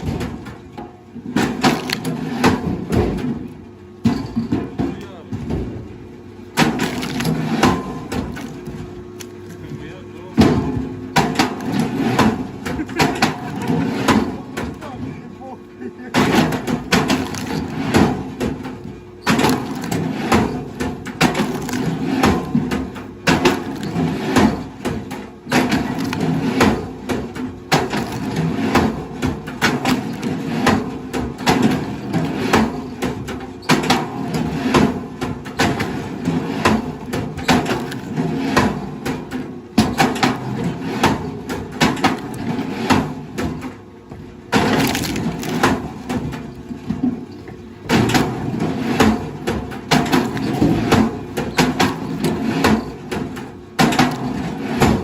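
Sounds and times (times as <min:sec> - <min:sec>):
steady low hum: 0:00.0 - 0:55.0
wood cracking and splintering: 0:01.3 - 0:02.8, 0:06.6 - 0:15.0, 0:16.1 - 0:43.8, 0:44.5 - 0:47.0, 0:47.9 - 0:55.0.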